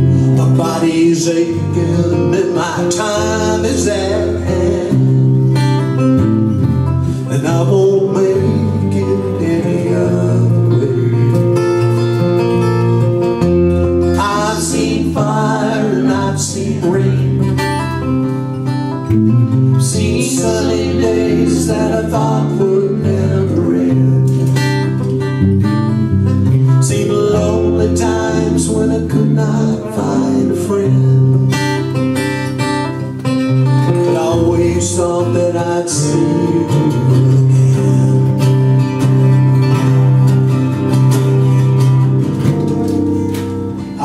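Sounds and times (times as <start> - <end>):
fingerpicked acoustic guitars: 0.0 - 44.0.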